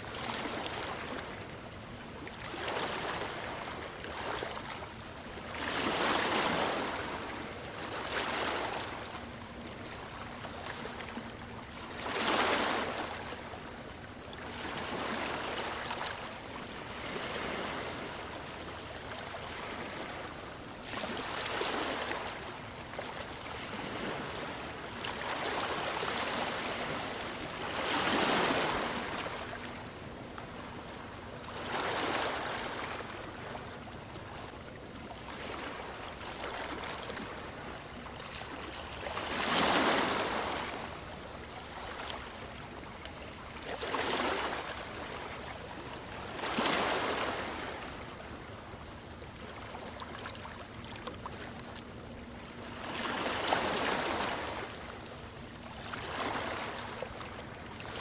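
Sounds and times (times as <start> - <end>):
ocean waves breaking on beach: 0.0 - 34.5, 35.2 - 42.6, 43.2 - 48.6, 52.3 - 58.0.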